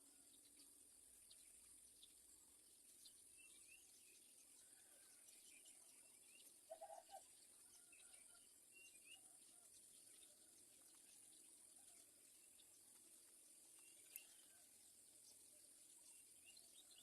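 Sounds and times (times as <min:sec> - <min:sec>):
small birds chirping: 0:00.0 - 0:17.0
steady high-pitched hiss: 0:00.0 - 0:17.0.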